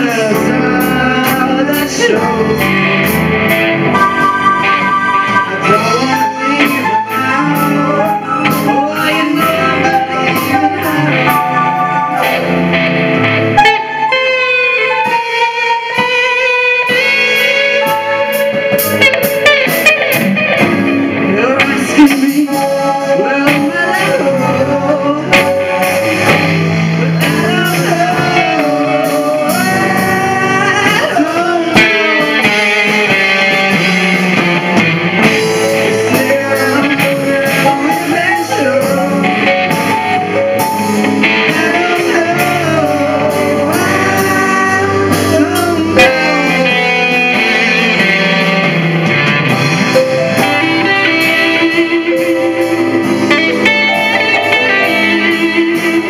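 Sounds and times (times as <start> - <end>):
drum kit: 0.0 - 56.0
electric guitar: 0.0 - 56.0
person singing: 0.0 - 56.0.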